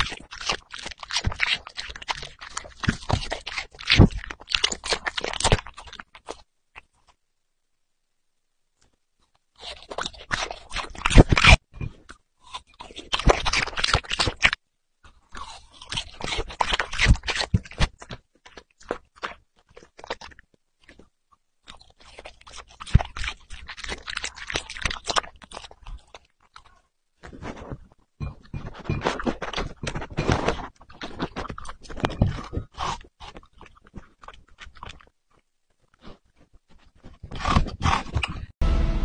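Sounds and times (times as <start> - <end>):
puppy crunching watermelon: 0.0 - 7.2, 9.5 - 38.6.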